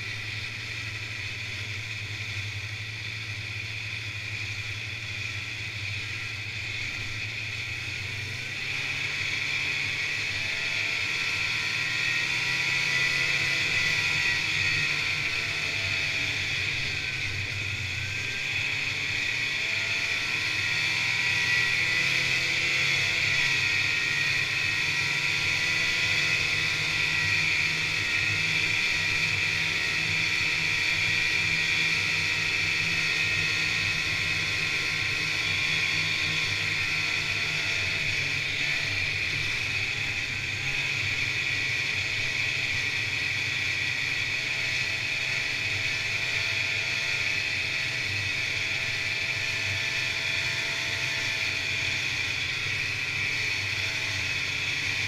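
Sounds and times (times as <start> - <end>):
snowmobile engine running: 0.0 - 55.0
snowmobile track noise: 0.0 - 55.0.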